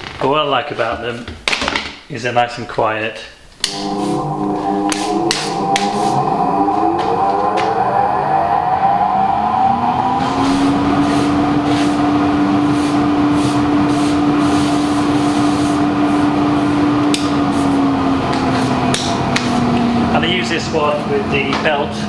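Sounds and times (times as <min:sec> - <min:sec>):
air rushing through extractor: 0:03.5 - 0:22.0
dust extractor motor whine: 0:03.5 - 0:22.0.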